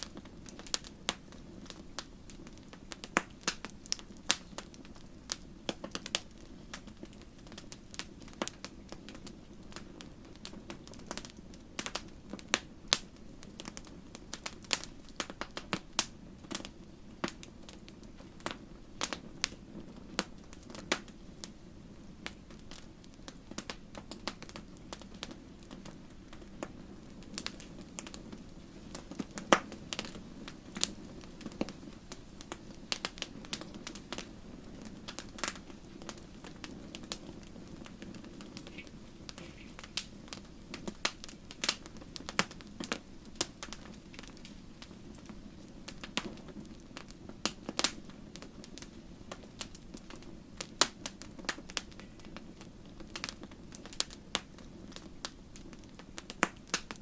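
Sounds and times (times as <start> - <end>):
campfire crackling and popping: 0.0 - 57.0
flames rumbling: 0.0 - 57.0.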